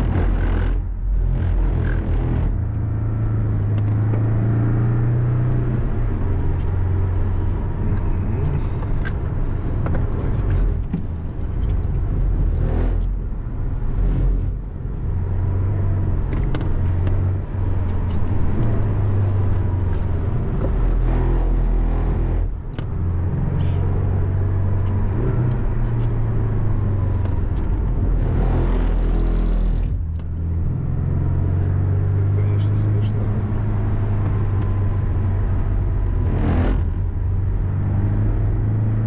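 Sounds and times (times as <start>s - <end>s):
car engine from inside cabin: 0.0s - 39.0s.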